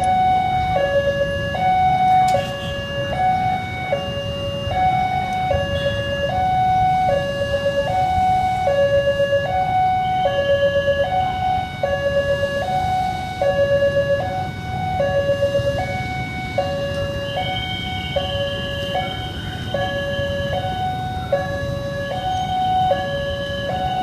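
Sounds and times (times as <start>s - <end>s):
two-tone crossing warning siren: 0.0s - 24.0s.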